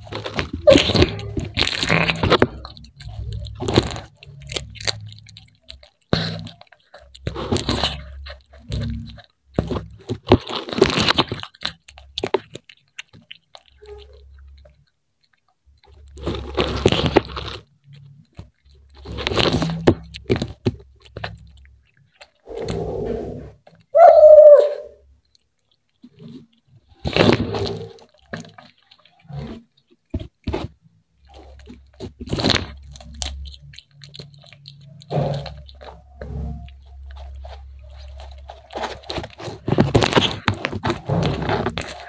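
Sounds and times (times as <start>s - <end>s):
cat chewing and crunching: 0.0s - 42.0s.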